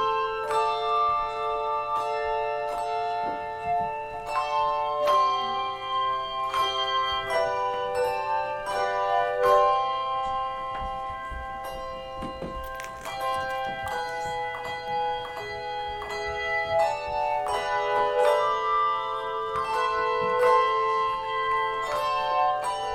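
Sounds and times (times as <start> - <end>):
handbell chords ringing: 0.0 - 22.9.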